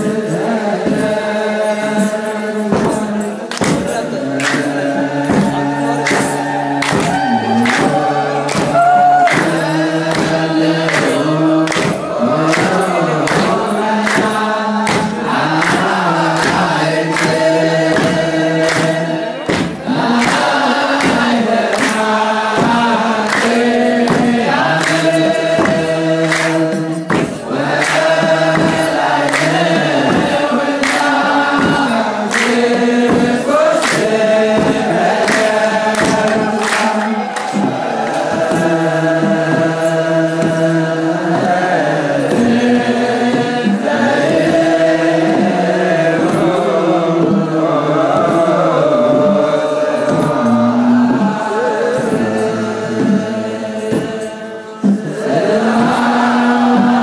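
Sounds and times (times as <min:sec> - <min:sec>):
drum beats: 0:00.0 - 0:57.0
male chorus chanting in unison: 0:00.0 - 0:57.0.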